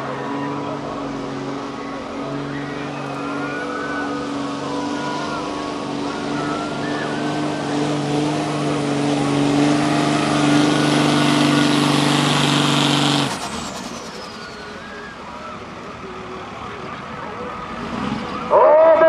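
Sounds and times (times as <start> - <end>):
pickup truck engine at full throttle: 0.0 - 19.0.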